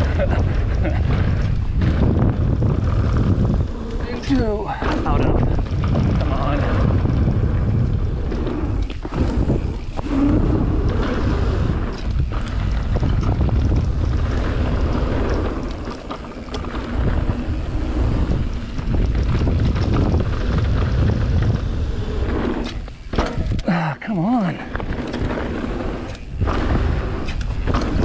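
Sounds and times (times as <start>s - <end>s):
bike knocks and rattles: 0.0s - 23.7s, 24.6s - 28.0s
wind rushing over microphone: 0.0s - 23.7s, 24.5s - 28.0s
tyre noise on dirt: 0.0s - 23.8s, 24.4s - 28.0s.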